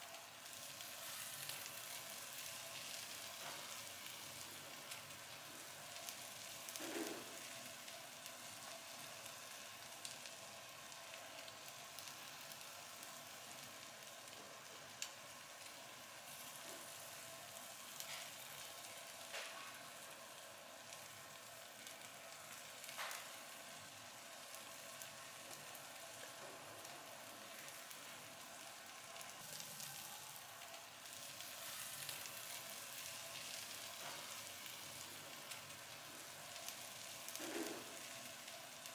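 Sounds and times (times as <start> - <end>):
food sizzling: 0.0 - 38.9.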